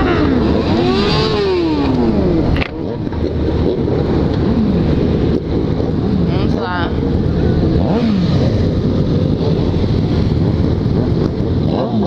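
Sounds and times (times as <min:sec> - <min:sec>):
motorcycle engines revving: 0:00.0 - 0:12.0
rushing wind noise: 0:00.0 - 0:12.0.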